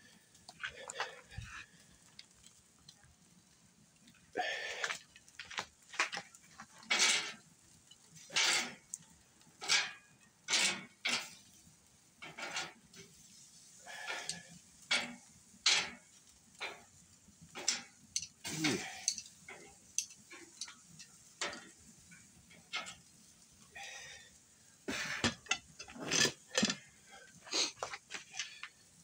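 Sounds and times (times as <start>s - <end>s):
metal utensils clinking on grill: 4.8s - 24.0s, 24.9s - 29.0s.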